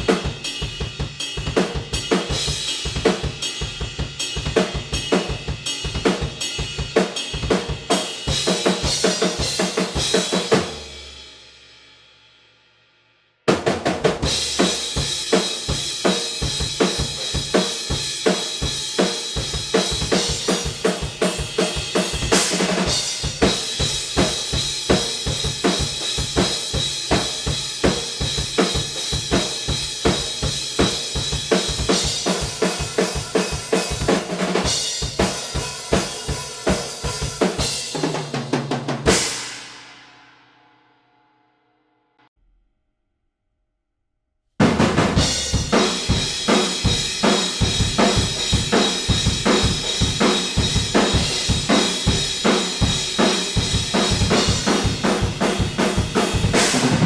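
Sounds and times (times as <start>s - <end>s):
drum kit played fast: 0.0s - 11.9s, 13.5s - 40.2s, 44.6s - 57.0s.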